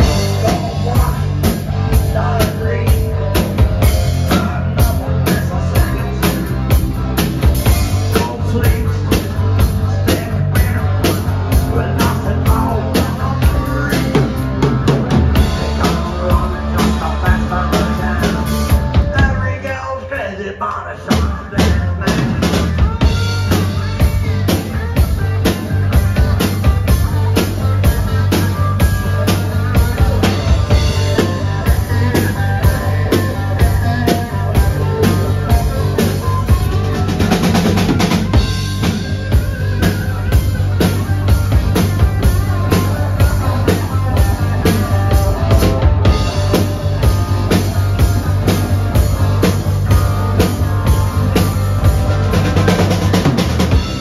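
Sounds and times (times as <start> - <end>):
drum kit beat: 0.0 - 19.8, 21.1 - 54.0
electric bass: 0.0 - 54.0
electric guitar: 0.0 - 54.0.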